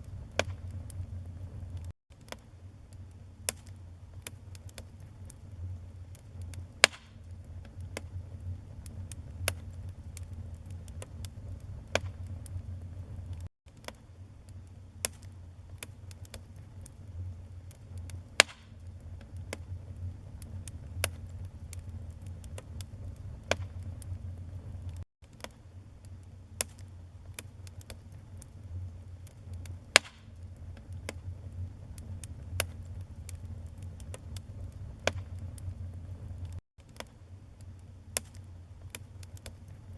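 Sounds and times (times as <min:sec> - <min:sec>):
flames rumbling: 0:00.0 - 0:01.9, 0:03.0 - 0:13.5, 0:14.7 - 0:25.0, 0:26.2 - 0:36.6
wood fire snapping: 0:00.0 - 0:37.1, 0:38.2 - 0:39.9
wood fire popping and crackling: 0:00.0 - 0:39.9.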